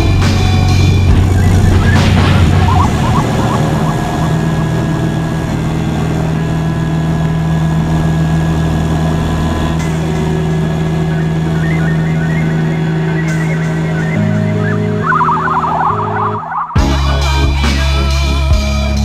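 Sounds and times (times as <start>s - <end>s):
airplane engine and propeller drone: 0.0s - 19.0s.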